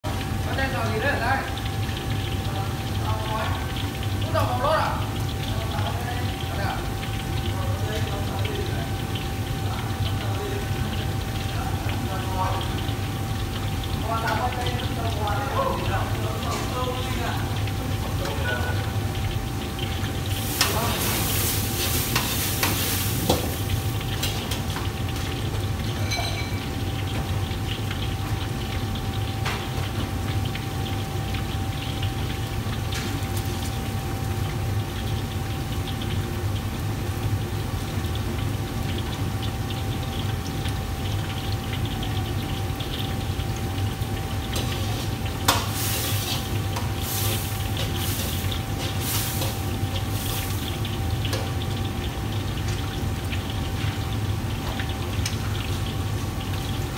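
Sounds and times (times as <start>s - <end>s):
gas burners roaring: 0.0s - 25.9s, 26.8s - 56.9s
sizzling and stirring in wok: 0.0s - 56.9s.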